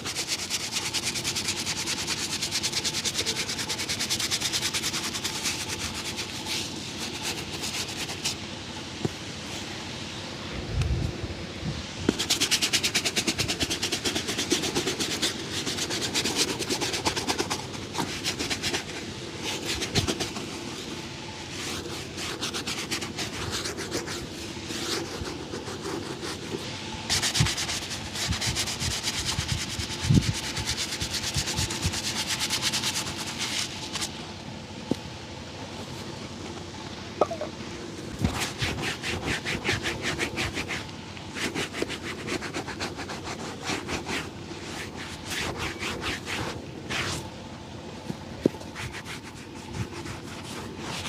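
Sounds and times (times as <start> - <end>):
rubbing on leather shoe: 0.0 - 9.8, 12.1 - 35.0, 37.2 - 47.4, 48.0 - 51.0.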